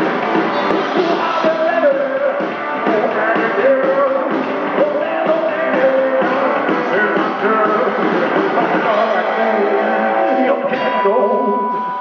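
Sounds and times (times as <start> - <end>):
rock and roll band playing: 0.0 - 12.0
man singing: 0.9 - 12.0.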